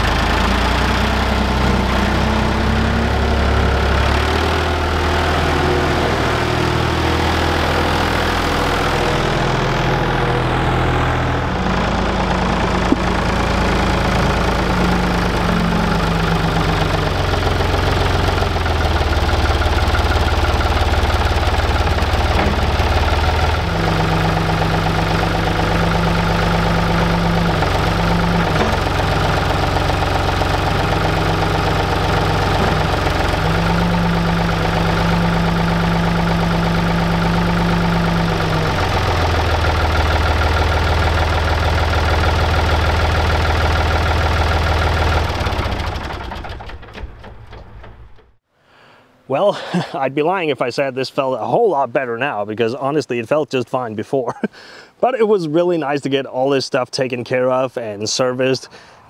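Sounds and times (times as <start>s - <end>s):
diesel engine idling: 0.0s - 48.4s.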